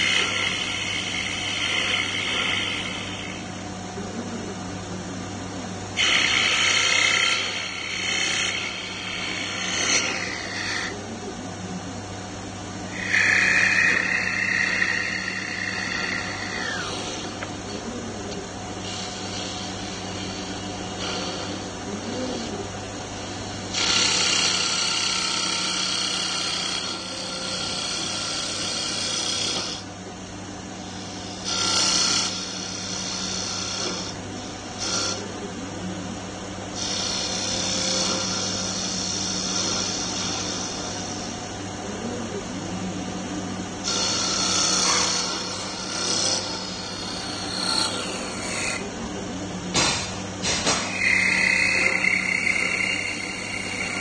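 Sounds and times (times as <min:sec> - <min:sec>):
tool cutting spinning wood: 0:00.0 - 0:03.6, 0:06.0 - 0:11.3, 0:12.8 - 0:30.0, 0:30.8 - 0:35.6, 0:36.6 - 0:41.6, 0:43.8 - 0:49.0, 0:49.8 - 0:54.0
lathe motor hum: 0:00.0 - 0:49.6, 0:50.2 - 0:54.0.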